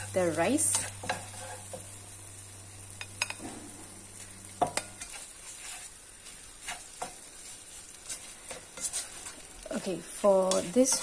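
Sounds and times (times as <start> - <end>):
spatula scraping and knocking wok: 0.0 - 2.2, 2.9 - 11.0
faint sizzle: 0.0 - 11.0.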